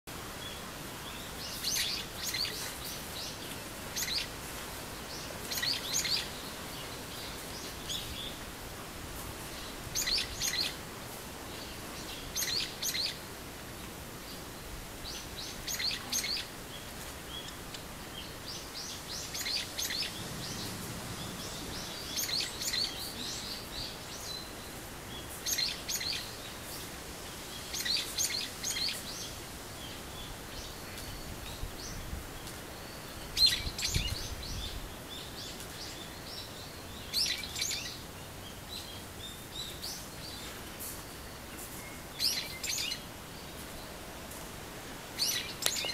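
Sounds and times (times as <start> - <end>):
steady background hiss: 0.1 - 45.9
small birds chirping: 0.2 - 8.6, 9.3 - 44.4, 45.0 - 45.9.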